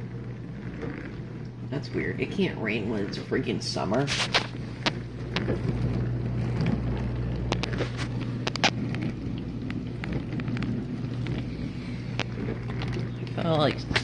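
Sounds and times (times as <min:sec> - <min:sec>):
dishwasher humming: 0:00.0 - 0:14.0
water washing: 0:00.0 - 0:14.0.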